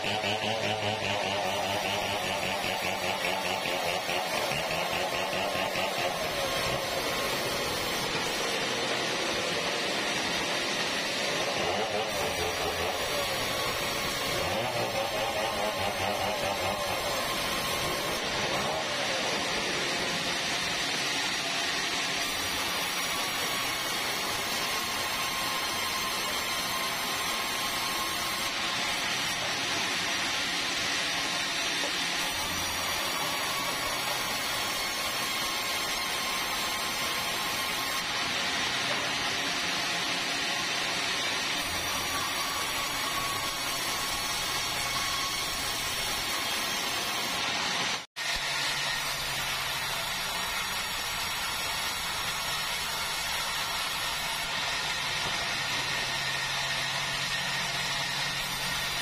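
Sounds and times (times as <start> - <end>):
band saw cutting timber: 0.0 - 59.0.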